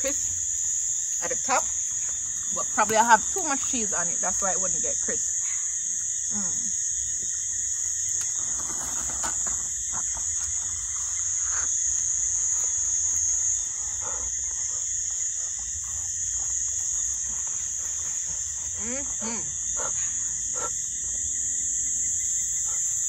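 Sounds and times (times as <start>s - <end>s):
insect trill: 0.0s - 23.0s.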